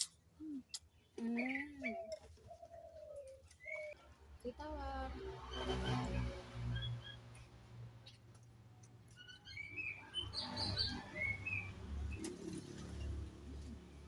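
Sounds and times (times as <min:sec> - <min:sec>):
small birds chirping: 0:00.0 - 0:04.7, 0:06.7 - 0:14.0.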